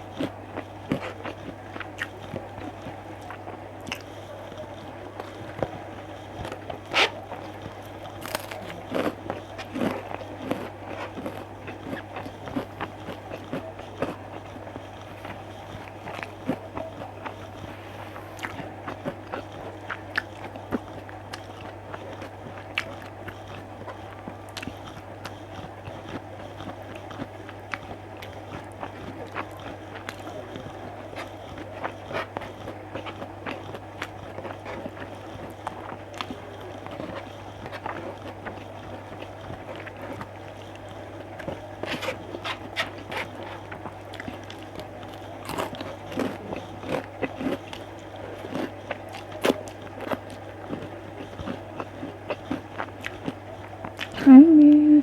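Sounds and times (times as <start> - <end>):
person chewing and crunching food: 0.0 - 55.0
steady low hum: 0.0 - 55.0.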